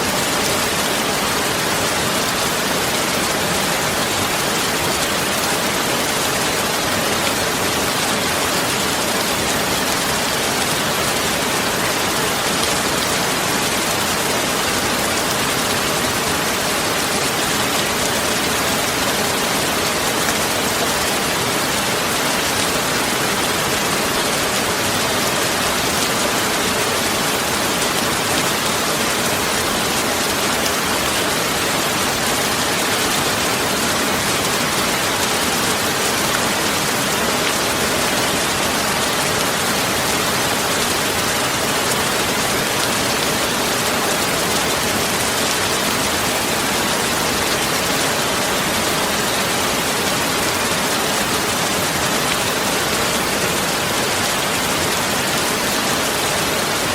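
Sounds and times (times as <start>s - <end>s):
steady rain-like noise: 0.0s - 56.9s.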